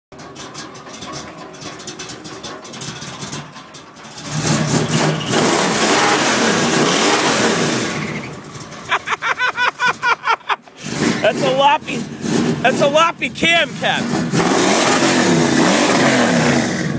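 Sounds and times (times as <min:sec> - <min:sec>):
pickup truck engine idling and revving: 0:00.1 - 0:16.9.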